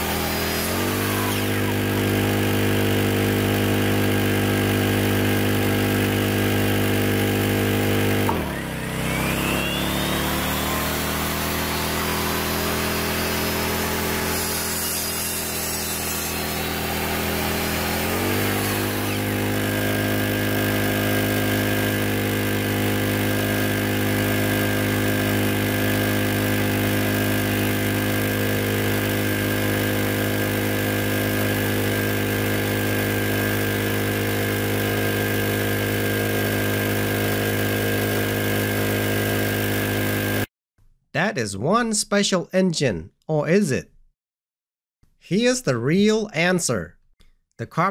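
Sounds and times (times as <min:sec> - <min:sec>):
generator engine running: 0:00.0 - 0:40.5
miter saw motor whining: 0:00.0 - 0:40.5
saw cutting wood: 0:00.0 - 0:40.5.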